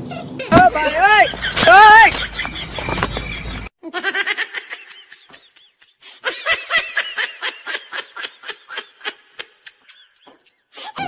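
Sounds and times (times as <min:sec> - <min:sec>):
high-pitched laughter: 0:01.0 - 0:11.0.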